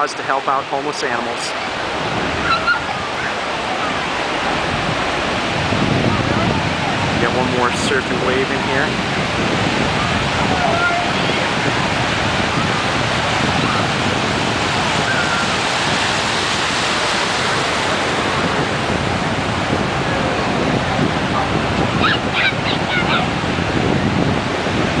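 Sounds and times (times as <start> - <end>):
ocean surf breaking: 0.0 - 25.0
wind on microphone: 1.3 - 25.0.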